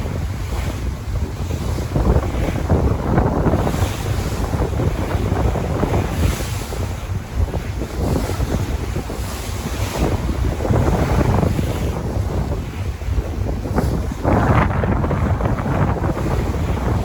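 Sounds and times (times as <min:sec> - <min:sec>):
sea waves washing: 0:00.0 - 0:17.0
wind buffeting microphone: 0:00.0 - 0:17.0.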